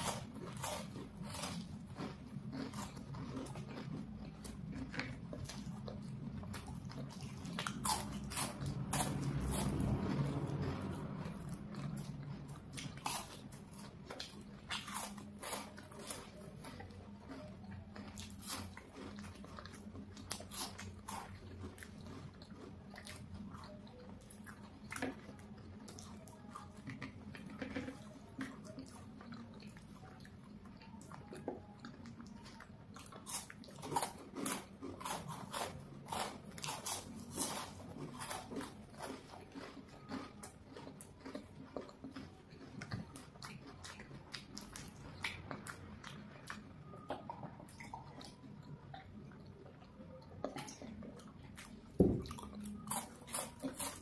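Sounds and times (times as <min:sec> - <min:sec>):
biting chocolate bars: 0:00.0 - 0:54.0
soft chewing: 0:00.0 - 0:54.0.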